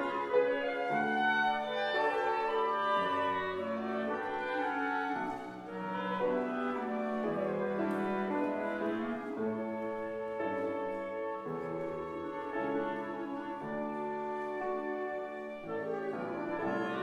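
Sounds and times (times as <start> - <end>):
flutes violins and piano playing: 0.0 - 17.0.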